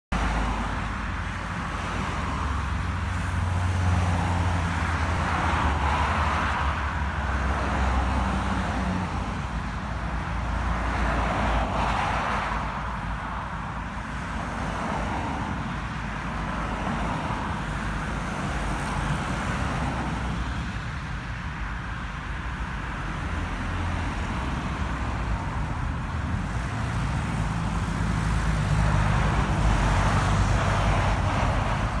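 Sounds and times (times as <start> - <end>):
cars passing on road: 0.1 - 32.0
heavy vehicle engine hum: 0.1 - 32.0.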